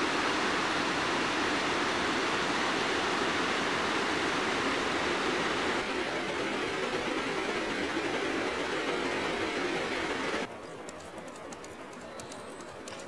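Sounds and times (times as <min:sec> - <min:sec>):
mountain stream rushing: 0:00.0 - 0:10.5.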